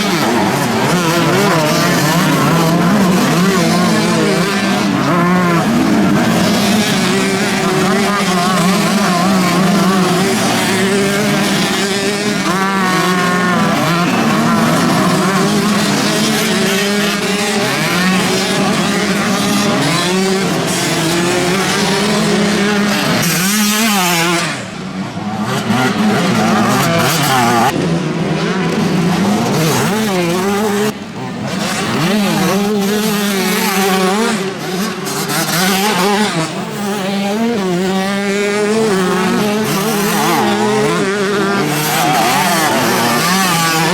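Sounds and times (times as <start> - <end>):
motocross motorcycles revving: 0.0 - 43.9.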